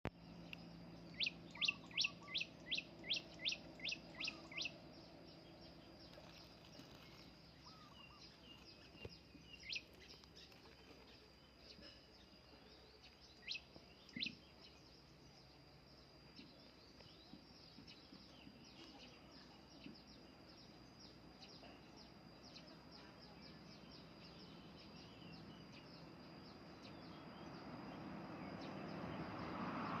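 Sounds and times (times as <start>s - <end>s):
insect drone: 0.1s - 30.0s.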